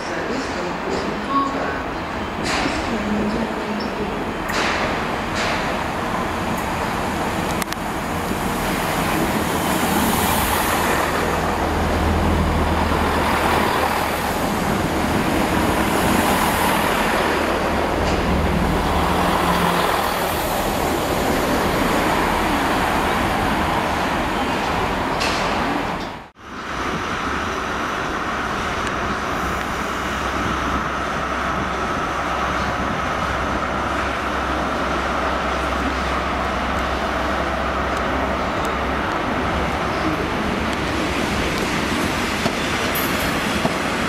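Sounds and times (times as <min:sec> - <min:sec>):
diesel train engine drone: 0:00.0 - 0:44.0
wheels rumbling on rails: 0:00.0 - 0:44.0.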